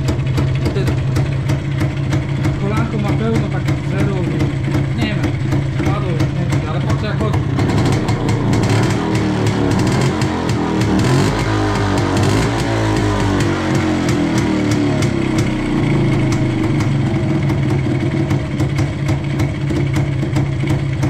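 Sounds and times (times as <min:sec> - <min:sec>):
two-stroke motorcycle engine idling: 0:00.0 - 0:21.0.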